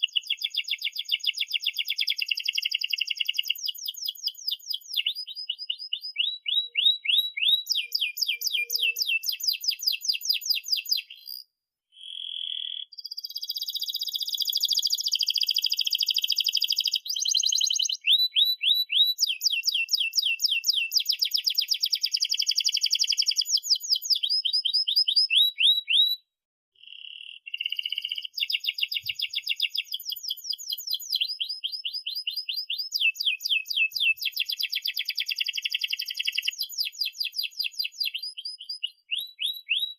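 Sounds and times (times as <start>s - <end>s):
canary singing trills: 0.0s - 26.2s, 26.8s - 39.9s.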